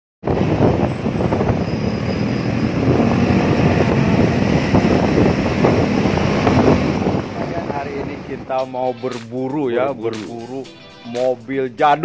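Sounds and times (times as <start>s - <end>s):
wind on microphone: 0.2s - 10.1s
scooter engine and road noise: 0.2s - 10.2s.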